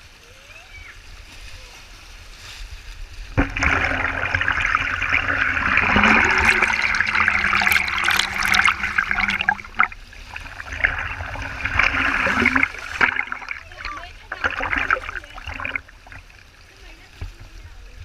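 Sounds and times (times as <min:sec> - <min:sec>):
waterfall gushing: 0:03.4 - 0:17.9.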